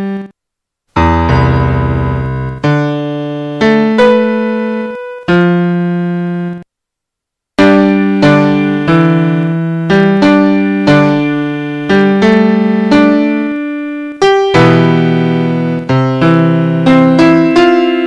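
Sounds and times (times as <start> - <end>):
slow piano chords: 1.0 - 6.6, 7.6 - 18.0.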